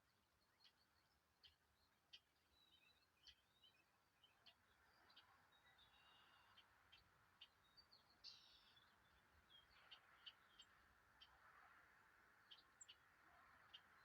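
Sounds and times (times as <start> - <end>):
small birds chirping: 0.0 - 11.4, 12.3 - 14.0.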